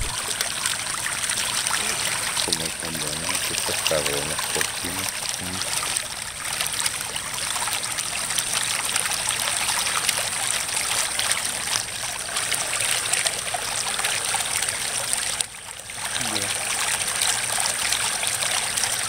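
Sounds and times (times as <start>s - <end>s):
water bubbling from drain: 0.0s - 19.0s.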